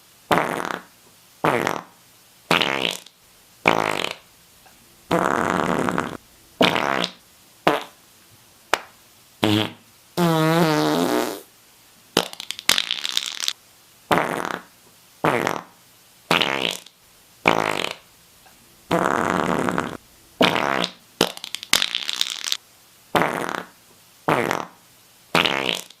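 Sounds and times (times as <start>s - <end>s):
fart sounds: 0.3s - 4.3s, 5.1s - 8.0s, 9.4s - 11.5s, 12.2s - 13.5s, 14.1s - 18.1s, 18.9s - 22.6s, 23.2s - 26.0s.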